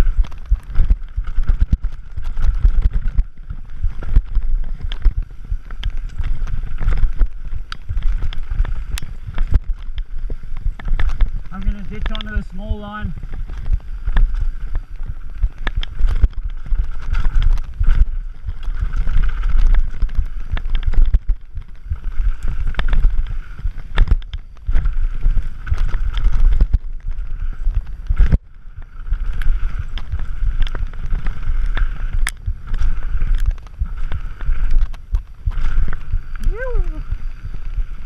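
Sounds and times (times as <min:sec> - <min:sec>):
wind rumbling over microphone: 0:00.0 - 0:38.0.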